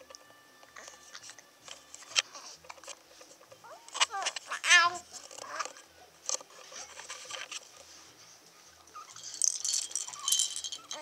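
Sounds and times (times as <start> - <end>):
faint clicks and rustles: 0.0 - 11.0.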